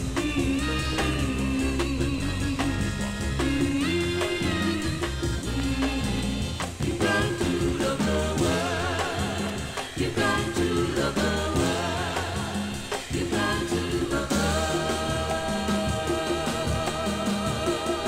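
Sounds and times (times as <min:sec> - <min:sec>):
person singing: 0:00.0 - 0:18.0
soul-jazz band playing on vinyl: 0:00.0 - 0:18.0
steady bass: 0:00.0 - 0:18.0.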